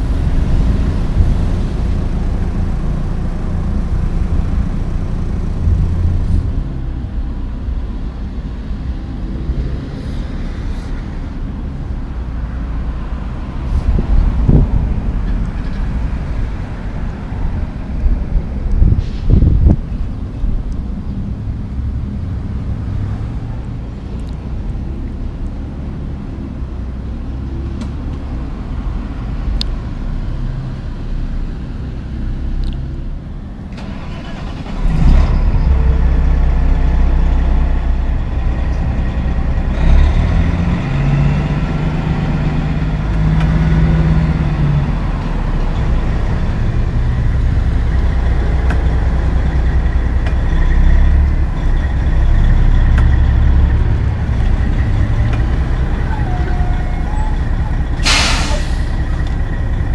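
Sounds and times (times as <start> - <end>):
truck diesel engine: 0.0 - 59.9.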